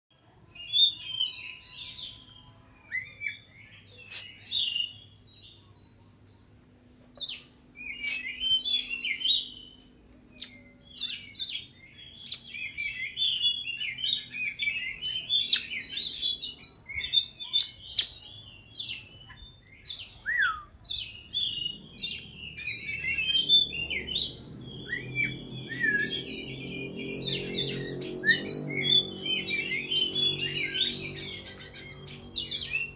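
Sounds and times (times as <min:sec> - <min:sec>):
bird singing whistles and trills: 0:00.5 - 0:06.5, 0:07.2 - 0:32.9.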